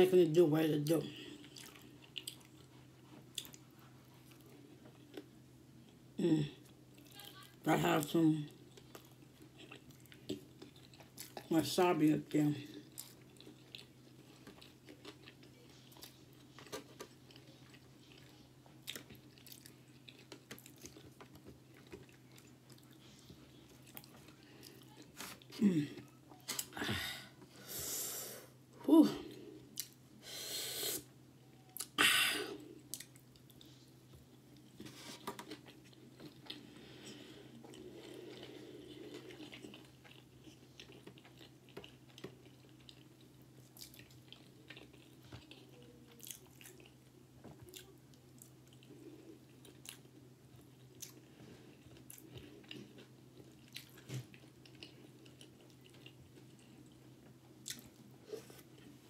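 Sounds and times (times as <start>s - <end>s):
person chewing food: 1.2s - 6.0s, 8.5s - 11.5s, 12.7s - 26.8s, 29.3s - 30.1s, 30.9s - 59.0s.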